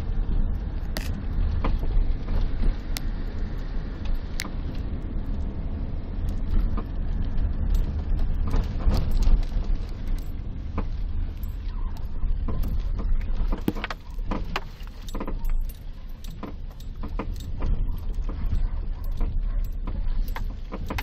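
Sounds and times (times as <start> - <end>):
car rumbling on the move: 0.0 - 21.0
suspension knocking and creaking: 0.0 - 21.0.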